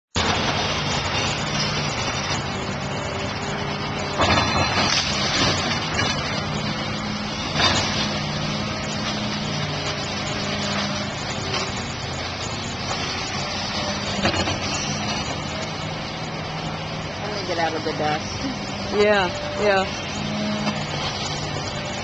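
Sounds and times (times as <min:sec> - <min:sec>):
excavator diesel engine running: 0:00.1 - 0:22.0.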